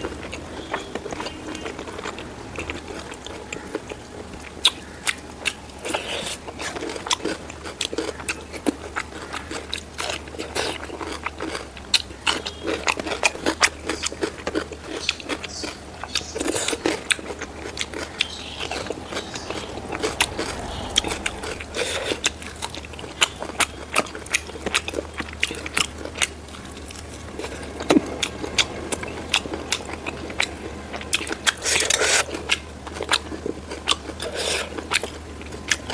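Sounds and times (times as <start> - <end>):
chewing with wet smacks: 0.0 - 35.9.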